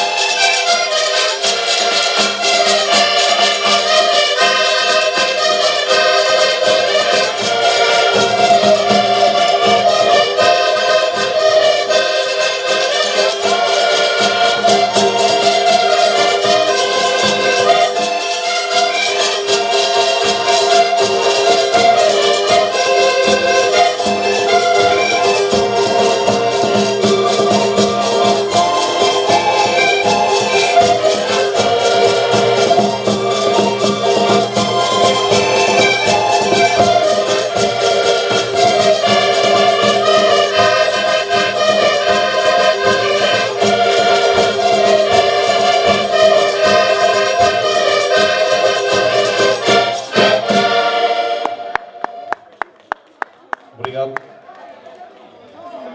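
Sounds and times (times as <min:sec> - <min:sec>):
drum and percussion beat: 0:00.0 - 0:11.8, 0:12.8 - 0:51.0
plucked string instrument: 0:00.0 - 0:52.5
accordions playing chords: 0:00.0 - 0:52.6.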